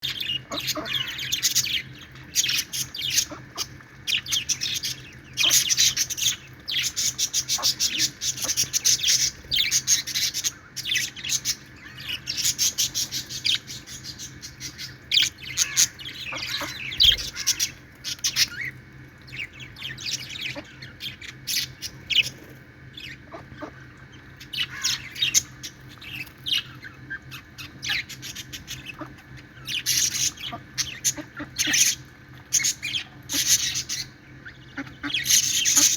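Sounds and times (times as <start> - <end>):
budgerigars chattering: 0.1 - 18.7, 24.4 - 32.0, 32.6 - 35.9.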